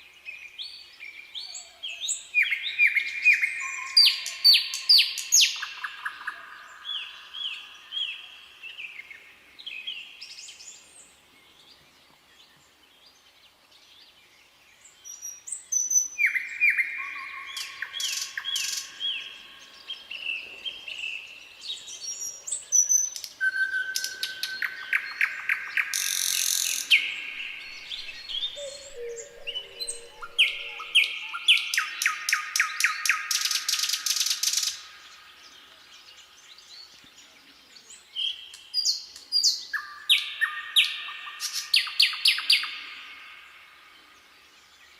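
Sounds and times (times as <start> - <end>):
nightingale singing: 0.0 - 11.9, 14.8 - 44.9.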